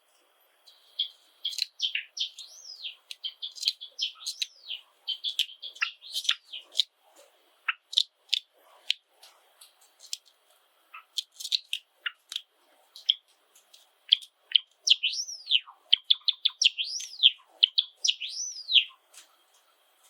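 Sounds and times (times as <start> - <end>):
bird singing clicks and chirps: 0.7 - 6.9, 7.7 - 9.0, 9.6 - 19.7.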